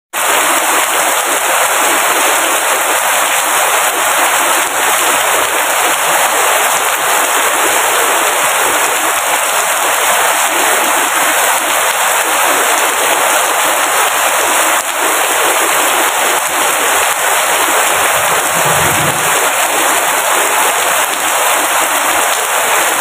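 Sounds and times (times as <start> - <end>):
heavy rain falling: 0.2 - 23.0.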